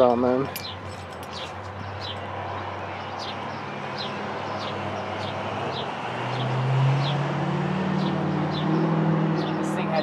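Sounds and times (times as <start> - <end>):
bird chirping: 0.0 - 7.2, 7.9 - 10.0
steady traffic rush: 0.0 - 10.0
vehicle engine hum: 0.0 - 10.0.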